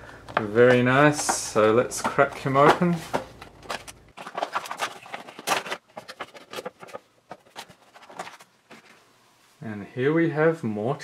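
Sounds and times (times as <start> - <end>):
cardboard and plastic packaging rustling: 0.2 - 9.1.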